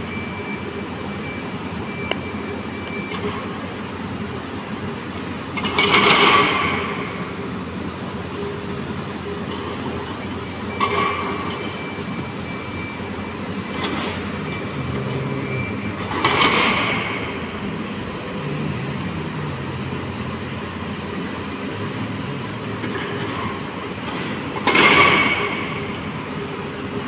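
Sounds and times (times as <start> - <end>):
heavy diesel machines running: 0.0 - 27.0.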